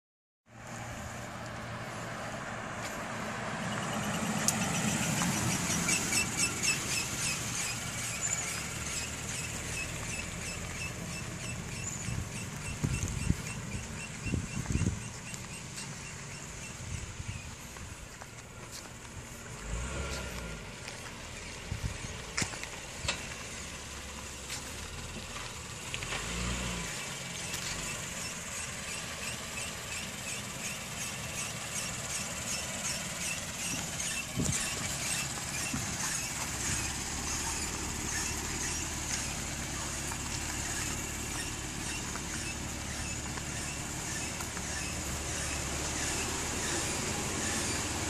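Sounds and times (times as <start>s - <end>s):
brake squeal chirps: 0.5s - 48.0s.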